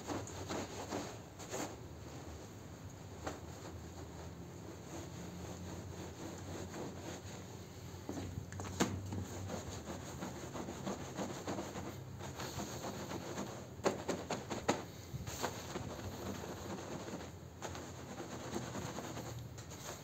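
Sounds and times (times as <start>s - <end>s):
push broom bristles swishing: 0.0s - 20.0s.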